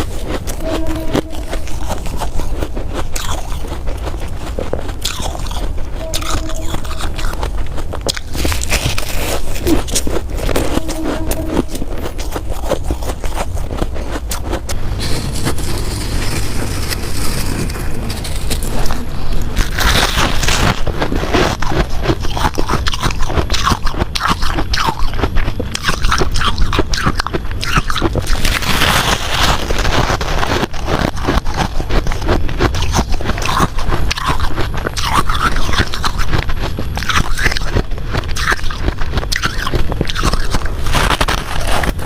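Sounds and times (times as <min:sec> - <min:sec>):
ice crunching in mouth: 0:00.0 - 0:42.0.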